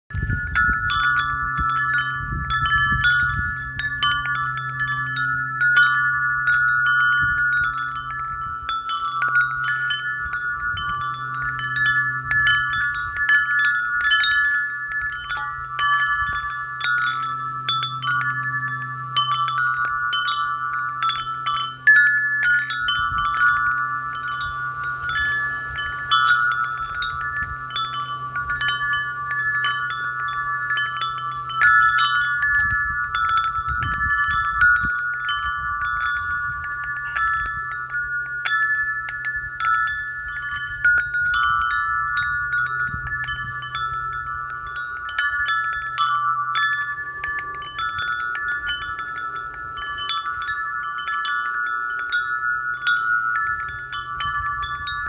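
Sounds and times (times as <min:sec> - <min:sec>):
metal wind chime ringing: 0:00.1 - 0:55.0.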